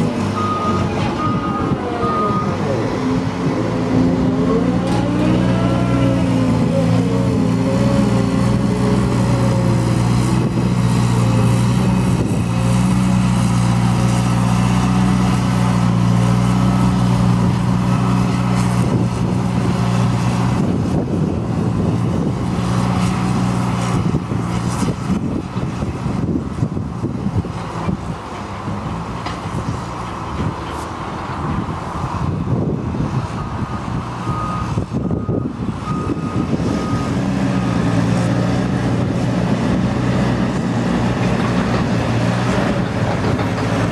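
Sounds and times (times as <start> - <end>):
diesel engine working hard: 0.0 - 43.9.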